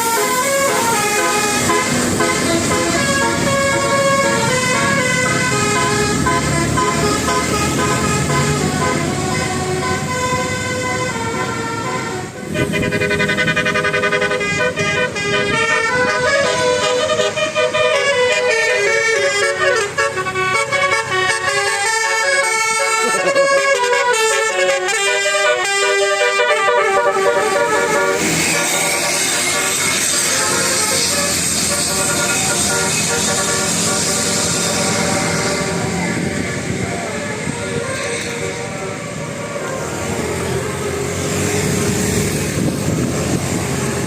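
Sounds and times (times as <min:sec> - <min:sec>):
musical air horn playing a melody: 0:00.0 - 0:36.4.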